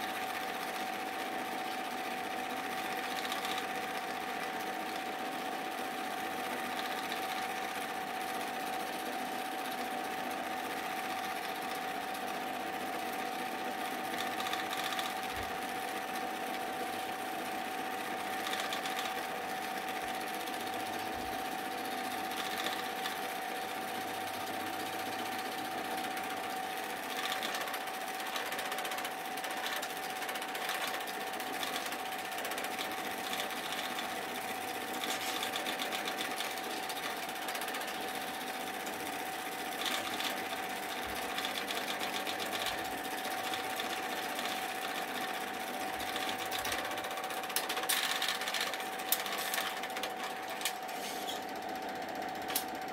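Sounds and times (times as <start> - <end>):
film projector clattering and whining: 0.0 - 52.9.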